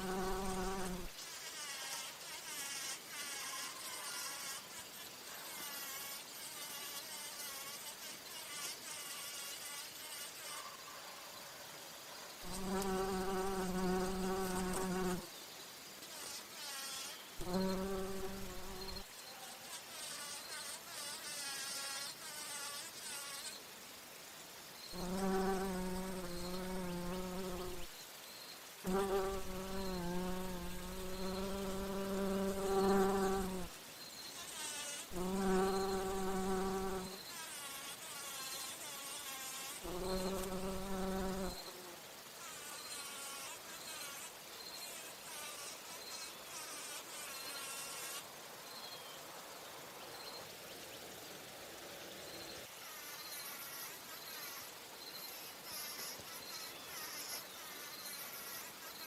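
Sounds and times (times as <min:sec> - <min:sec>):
bumblebee buzzing in flight: 0:00.0 - 0:10.8, 0:12.4 - 0:15.3, 0:16.1 - 0:23.6, 0:25.0 - 0:27.9, 0:28.8 - 0:33.7, 0:34.4 - 0:48.2, 0:52.8 - 0:59.0.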